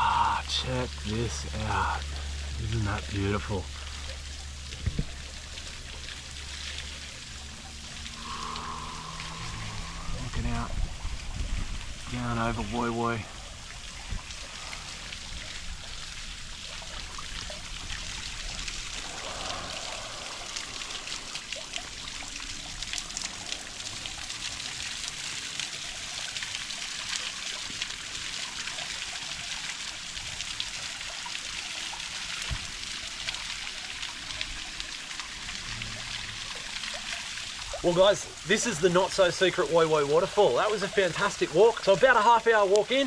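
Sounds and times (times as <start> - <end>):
small waterfall splashing: 0.0 - 43.0.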